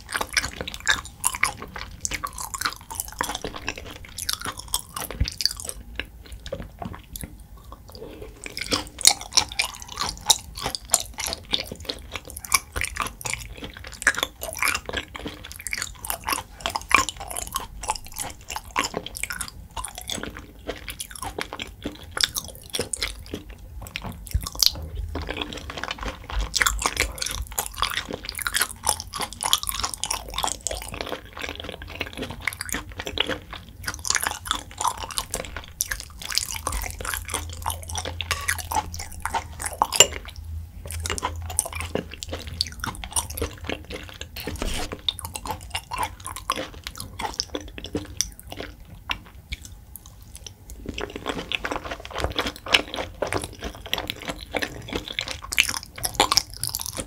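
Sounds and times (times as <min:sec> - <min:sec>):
person chewing raw meat: 0:00.0 - 0:57.0.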